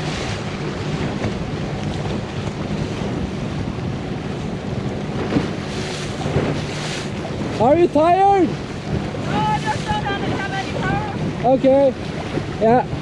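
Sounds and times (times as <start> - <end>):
lake water rushing and splashing: 0.0 - 13.0
wind on microphone: 0.0 - 13.0.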